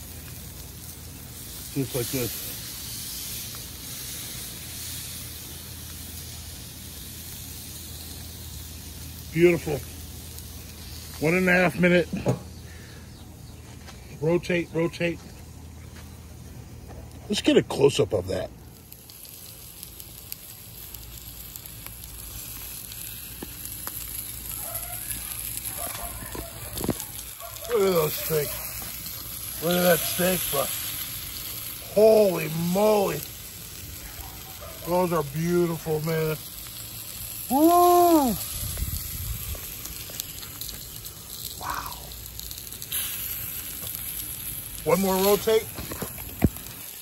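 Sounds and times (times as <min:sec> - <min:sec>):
steaks sizzling on a grill: 0:00.0 - 0:15.4, 0:16.8 - 0:47.0
fat crackling and popping: 0:00.0 - 0:47.0.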